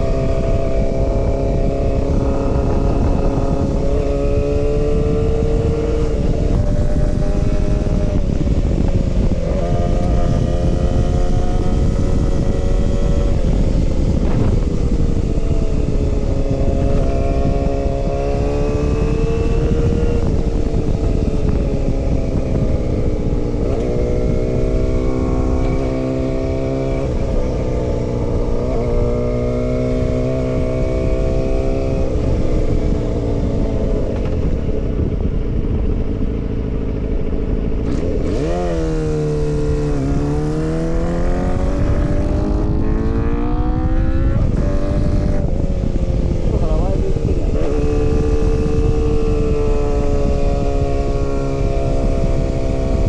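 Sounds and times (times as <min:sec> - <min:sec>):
motorcycle engine revving: 0:00.0 - 0:53.0
wind noise: 0:00.0 - 0:53.0.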